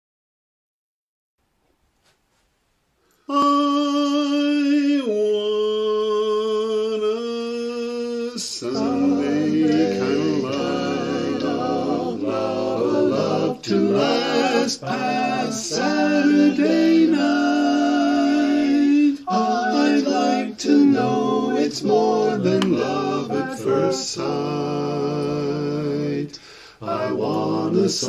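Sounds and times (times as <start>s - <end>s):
male a cappella quartet singing: 3.3s - 28.0s.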